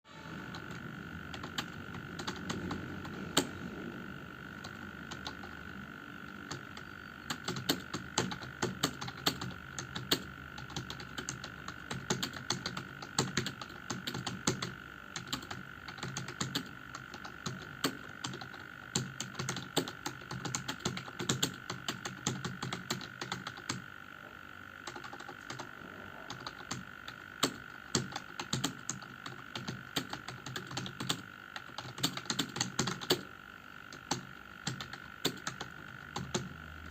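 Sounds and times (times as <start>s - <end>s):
faint high hum: 0.1s - 36.9s
typing on computer keyboard: 0.5s - 3.5s, 4.6s - 5.6s, 6.3s - 23.8s, 24.8s - 25.7s, 26.3s - 33.3s, 34.0s - 36.5s.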